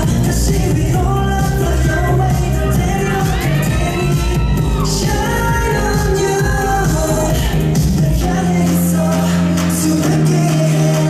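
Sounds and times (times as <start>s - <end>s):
loud pop dance music: 0.0s - 11.0s.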